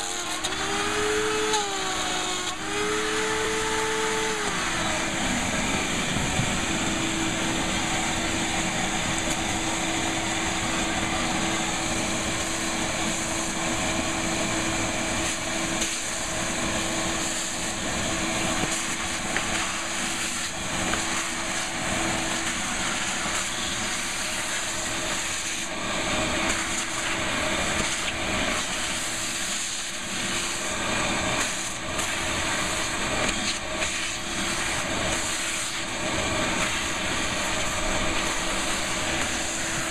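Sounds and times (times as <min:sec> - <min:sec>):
vacuum running: 0:00.0 - 0:39.9.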